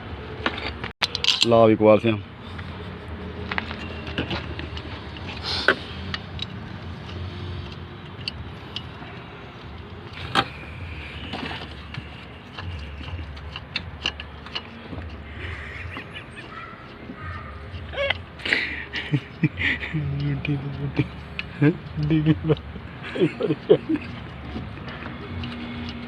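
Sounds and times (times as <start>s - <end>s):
metallic clicks and knocks of tools: 0.4s - 1.6s, 3.4s - 10.6s, 11.4s - 15.2s, 15.8s - 26.0s.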